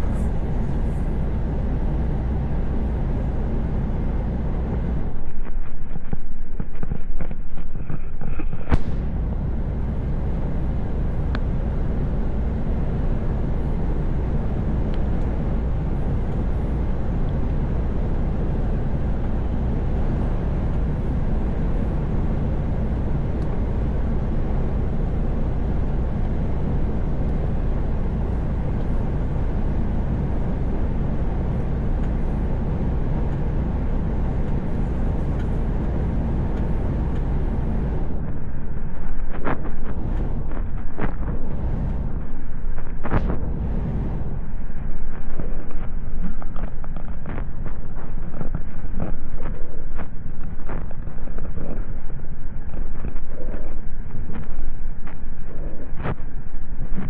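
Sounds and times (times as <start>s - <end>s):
truck engine drone: 0.0s - 6.2s, 6.8s - 57.0s
road and wind noise: 0.0s - 57.0s.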